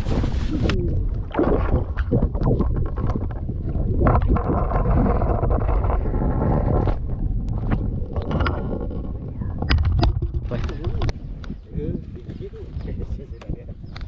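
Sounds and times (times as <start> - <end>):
underwater sloshing: 0.0 - 11.7
steady low rumble: 0.0 - 13.9.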